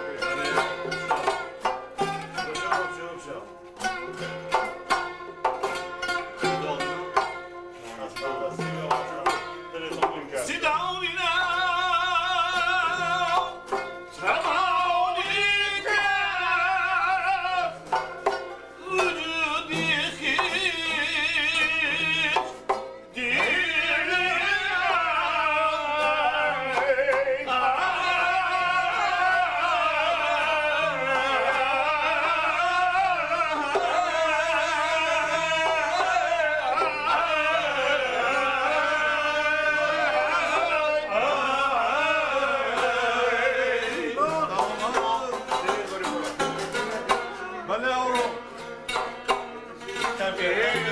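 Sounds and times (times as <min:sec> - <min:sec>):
hand-beaten frame drum: 0:00.0 - 0:10.6, 0:11.3 - 0:50.9
plucked long-necked lute: 0:00.0 - 0:50.9
man singing ornamented melody: 0:05.5 - 0:49.0, 0:49.7 - 0:50.9.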